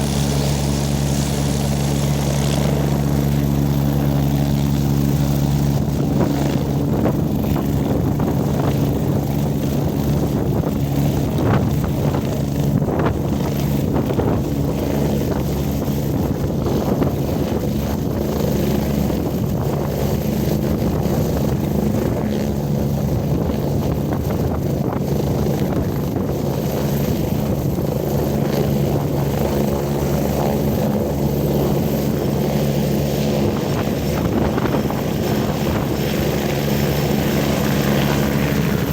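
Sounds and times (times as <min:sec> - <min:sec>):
helicopter running: 0:00.0 - 0:38.9.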